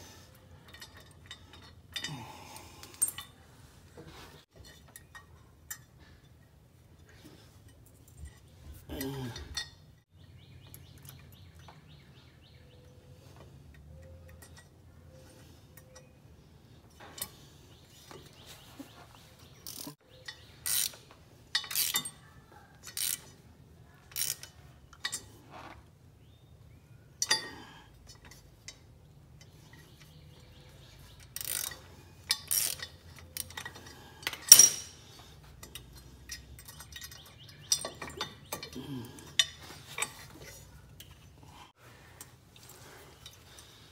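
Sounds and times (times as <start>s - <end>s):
metal tools and bolts clinking: 0.1s - 11.8s, 12.8s - 26.3s, 27.1s - 41.5s.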